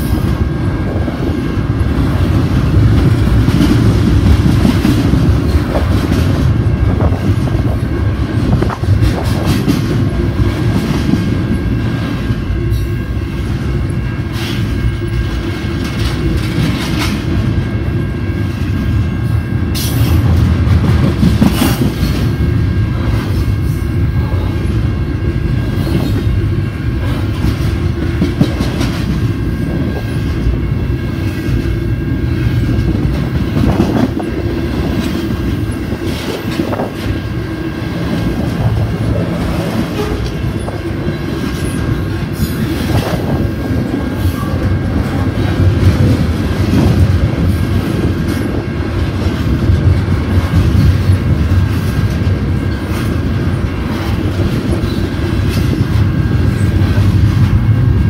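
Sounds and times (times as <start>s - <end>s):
train cars clanking: 0.0s - 58.0s
train wheels rumbling on rail: 0.0s - 58.0s.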